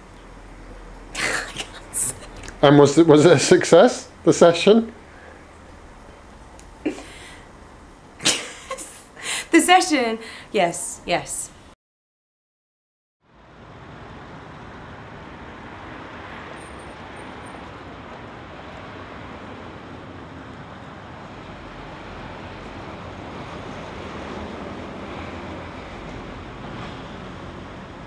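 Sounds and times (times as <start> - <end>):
road traffic rushing: 0.0 - 10.7, 13.2 - 28.0.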